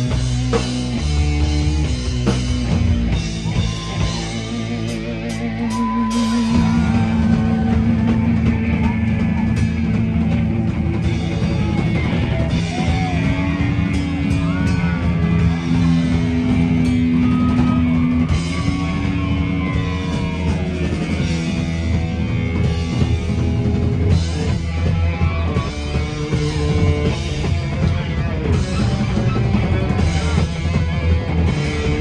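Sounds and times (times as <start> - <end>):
distorted electric guitars: 0.0 - 32.0
live heavy metal band: 0.0 - 32.0.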